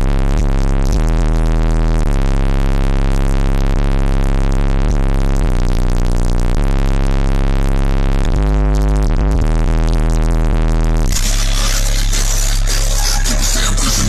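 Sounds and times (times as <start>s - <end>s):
bass-heavy electronic music: 0.0s - 14.0s.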